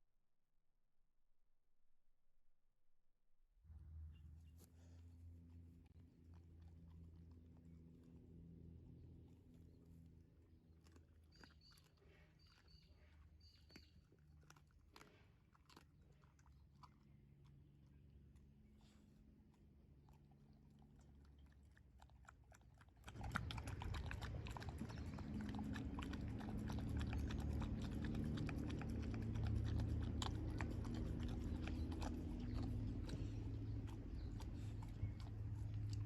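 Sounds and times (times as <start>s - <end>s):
dog chewing and crunching: 5.8s - 36.0s.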